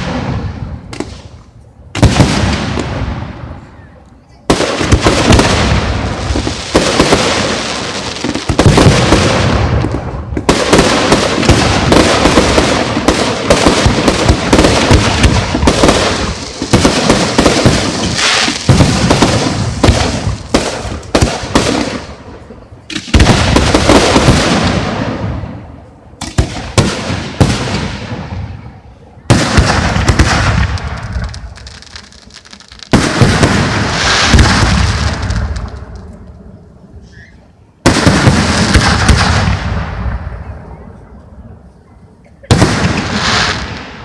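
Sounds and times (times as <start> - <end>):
fireworks booms and crackling: 0.0 - 36.9, 37.8 - 41.8, 42.4 - 44.0.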